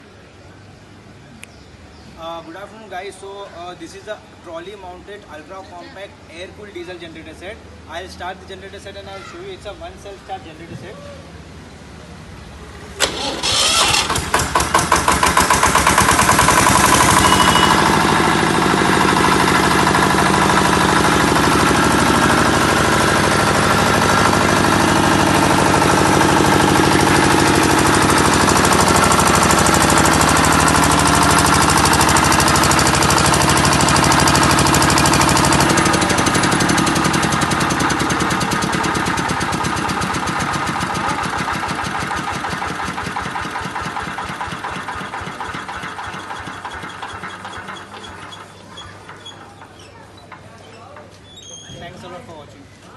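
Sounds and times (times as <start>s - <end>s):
diesel generator starting and running: 0.0s - 52.6s.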